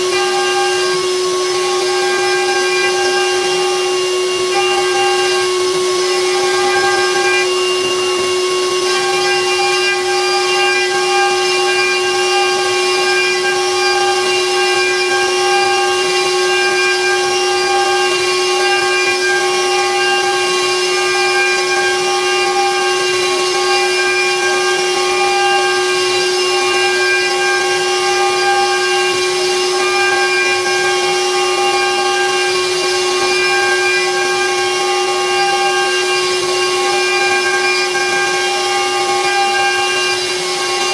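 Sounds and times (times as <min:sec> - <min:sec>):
hiss of cutting wood: 0:00.0 - 0:40.9
router spindle whining: 0:00.0 - 0:40.9.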